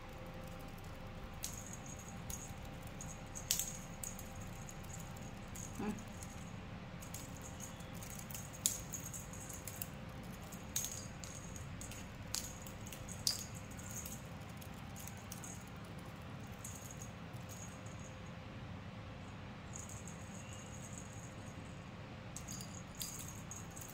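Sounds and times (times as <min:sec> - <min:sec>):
small bell jingling: 0:00.0 - 0:18.4, 0:19.7 - 0:21.8, 0:22.4 - 0:23.9
faint steady hum: 0:00.0 - 0:23.9.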